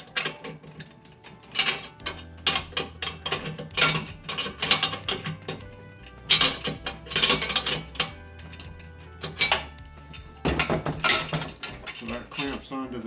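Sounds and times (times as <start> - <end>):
metal tools clicking and rattling: 0.0 - 13.0.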